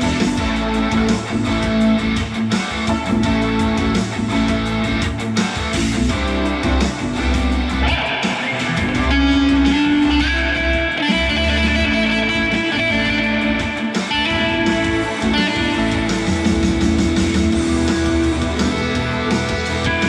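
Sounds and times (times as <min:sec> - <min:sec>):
electric guitar through amplifier: 0:00.0 - 0:20.0.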